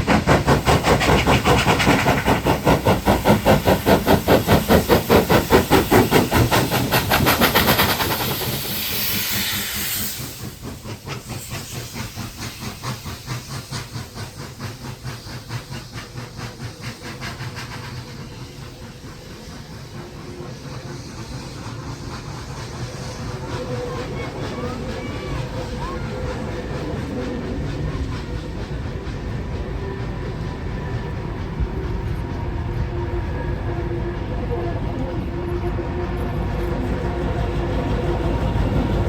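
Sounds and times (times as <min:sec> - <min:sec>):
steam hissing: 0:00.0 - 0:39.0
steam locomotive exhaust chuffs: 0:00.0 - 0:39.0.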